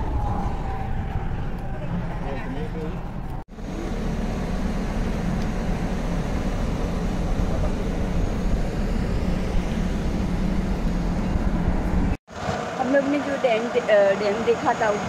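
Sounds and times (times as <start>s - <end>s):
bus engine rumble and road noise: 0.0s - 15.0s.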